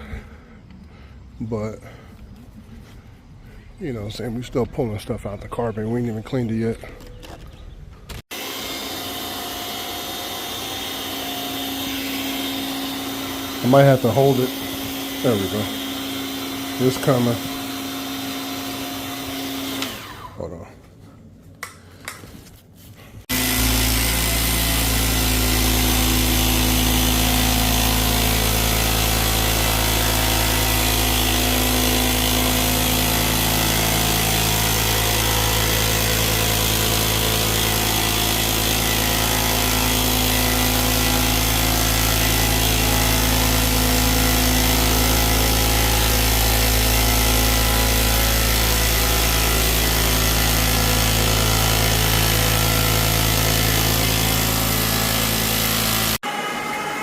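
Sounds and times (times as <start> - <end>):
cleaning machine motor humming: 8.3 - 20.4, 23.3 - 57.0.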